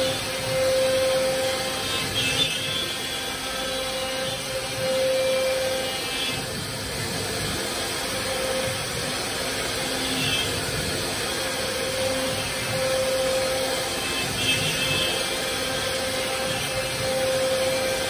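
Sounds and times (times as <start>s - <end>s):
router bit cutting board: 0.0s - 18.0s
router spindle whine: 0.0s - 18.0s.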